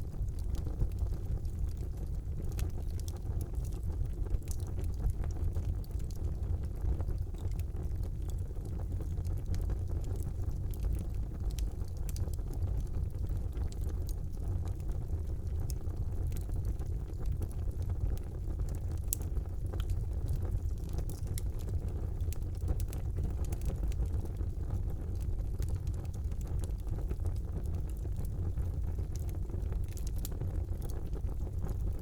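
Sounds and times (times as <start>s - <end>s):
fire crackling and popping: 0.0s - 32.0s
fire flames rumbling: 0.0s - 32.0s.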